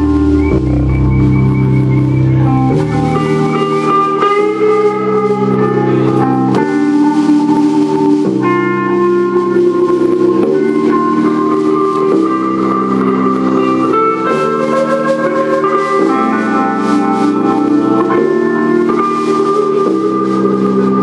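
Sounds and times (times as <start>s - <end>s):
live band guitar chords: 0.0s - 21.0s.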